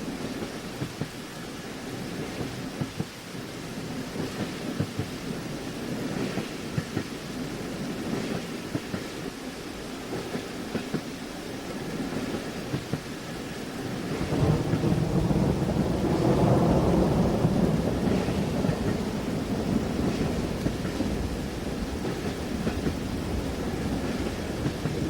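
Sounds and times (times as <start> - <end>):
steady rain: 0.0 - 25.0
train wheels clacking on rail joints: 4.1 - 9.4, 10.0 - 25.0.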